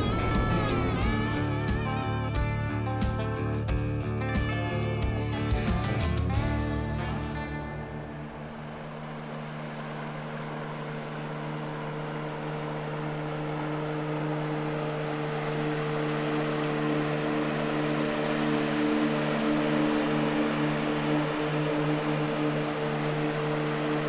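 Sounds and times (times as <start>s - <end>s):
outboard motor drone: 0.0s - 24.0s.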